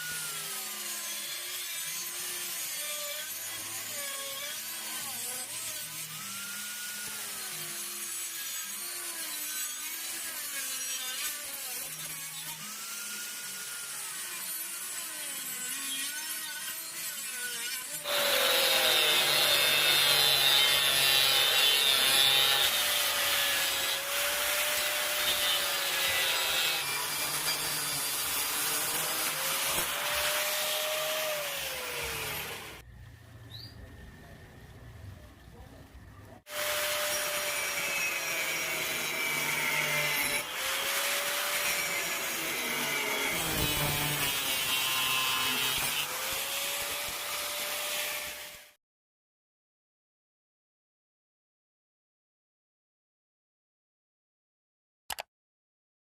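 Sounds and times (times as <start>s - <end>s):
angle grinder cutting steel: 0.0s - 32.8s, 36.5s - 48.8s.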